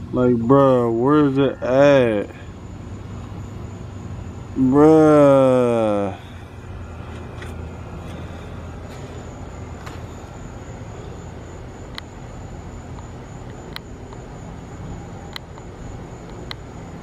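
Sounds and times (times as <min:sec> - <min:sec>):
faint high-pitched whine: 0:00.0 - 0:17.0
low outdoor rumble: 0:00.0 - 0:17.0.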